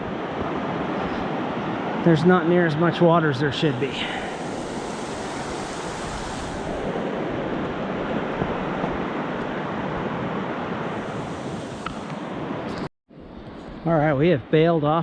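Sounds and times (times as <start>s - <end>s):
river rushing: 0.0s - 12.8s.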